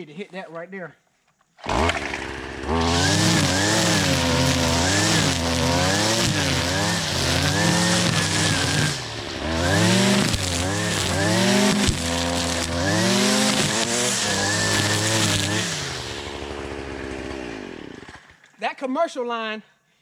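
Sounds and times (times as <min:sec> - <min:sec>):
string trimmer engine revving: 0:01.6 - 0:18.5.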